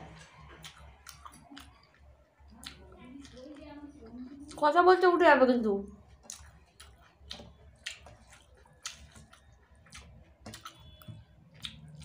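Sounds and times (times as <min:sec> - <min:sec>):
person chewing: 0:00.0 - 0:04.6, 0:06.0 - 0:12.0.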